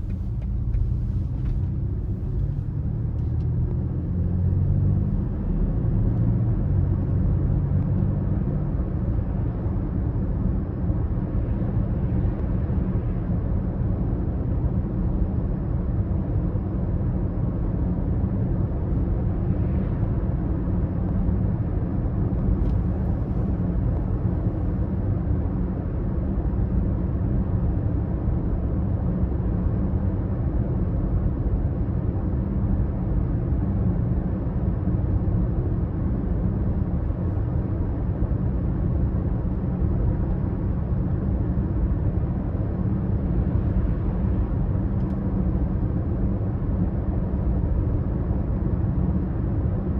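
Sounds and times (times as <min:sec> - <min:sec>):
road noise: 0:00.0 - 0:49.9.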